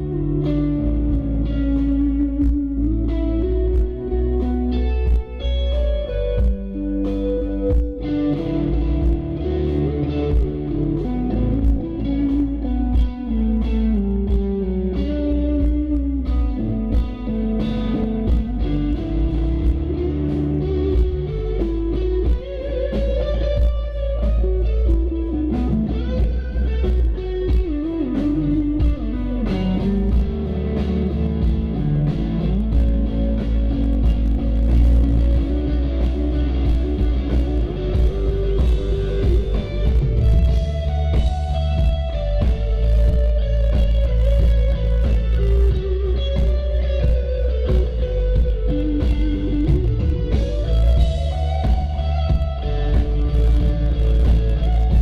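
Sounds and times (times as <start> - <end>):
deep electric bass guitar: 0.0 - 55.0
electric guitar lead: 0.0 - 55.0
sharp rhythmic hits: 0.0 - 55.0.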